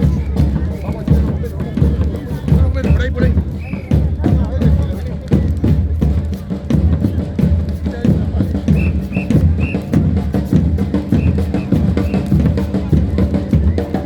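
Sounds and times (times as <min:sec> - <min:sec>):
drum-led music: 0:00.0 - 0:14.0.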